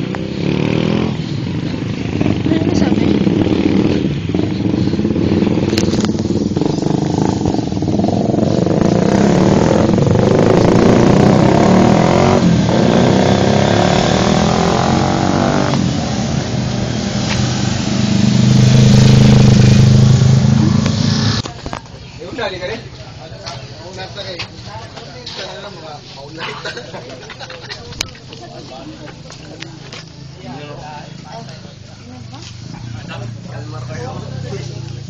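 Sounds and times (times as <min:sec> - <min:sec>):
motorcycle engines passing: 0:00.0 - 0:35.0.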